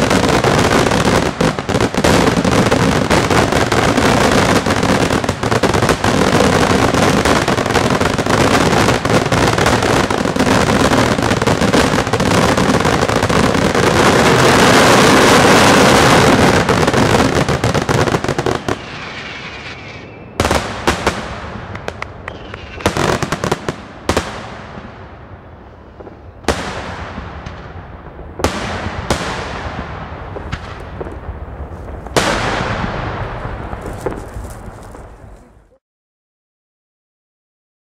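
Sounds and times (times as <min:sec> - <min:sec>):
sharp firework bangs echoing: 0:00.0 - 0:35.5
fireworks bangs and crackling: 0:00.0 - 0:35.8.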